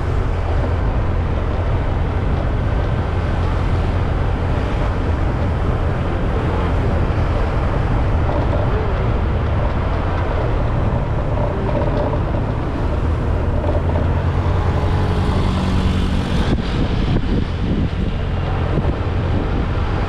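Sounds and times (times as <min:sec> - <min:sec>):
motorcycle engine rumbling: 0:00.0 - 0:19.6.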